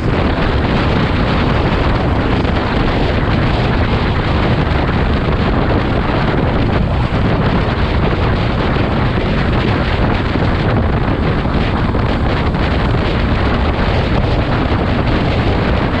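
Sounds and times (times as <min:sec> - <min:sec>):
motorcycle engine: 0:00.0 - 0:16.0
wind rush on microphone: 0:00.0 - 0:16.0.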